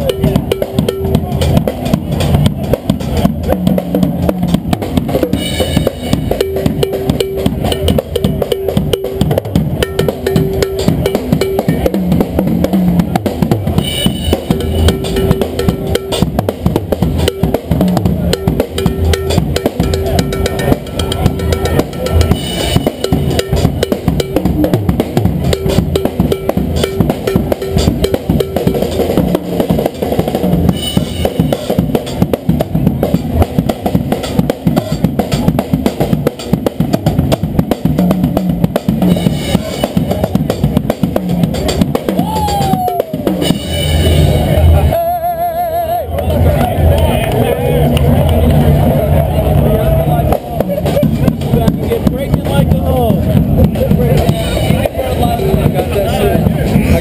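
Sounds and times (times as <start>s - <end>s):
acoustic drum kit playing: 0.0s - 45.6s, 48.1s - 57.0s.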